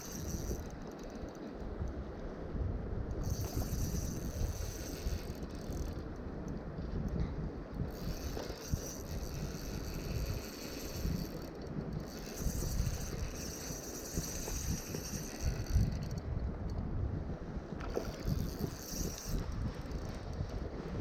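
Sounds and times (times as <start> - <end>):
fishing reel running under load: 0.0 - 1.8, 3.1 - 6.6, 7.7 - 16.8, 17.8 - 20.5
wind rumbling on microphone: 0.0 - 21.0.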